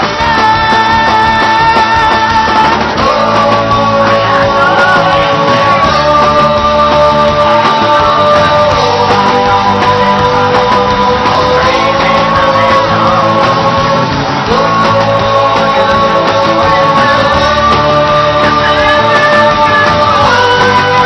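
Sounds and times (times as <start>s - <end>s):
rock song with full band: 0.0s - 21.0s.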